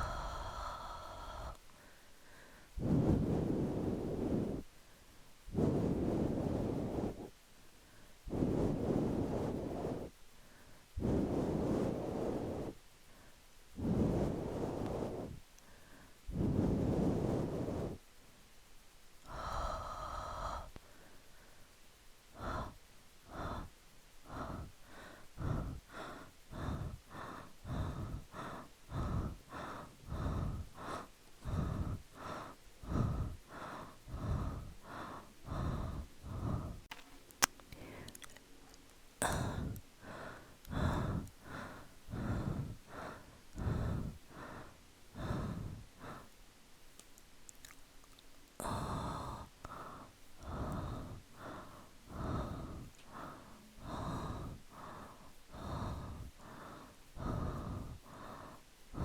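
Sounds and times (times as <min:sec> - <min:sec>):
person breathing: 0:00.0 - 0:18.4, 0:19.2 - 0:38.5, 0:39.2 - 0:46.5, 0:47.6 - 0:59.0.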